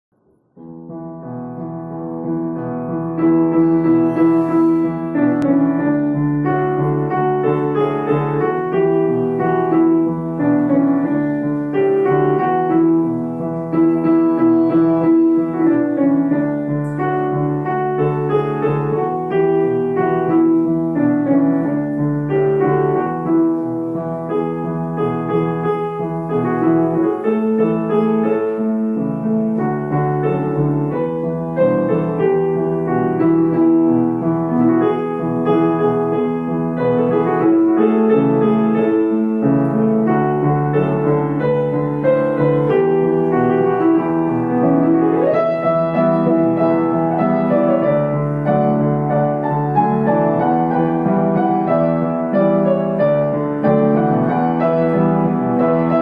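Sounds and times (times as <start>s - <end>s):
piano music with held notes: 0.1s - 56.0s.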